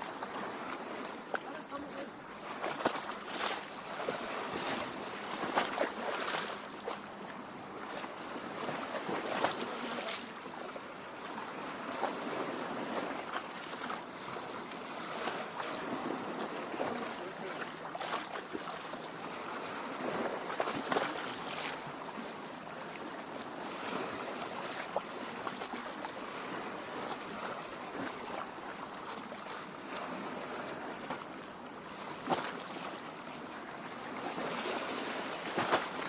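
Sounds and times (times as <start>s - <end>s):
water lapping on rocky shore: 0.0s - 36.0s.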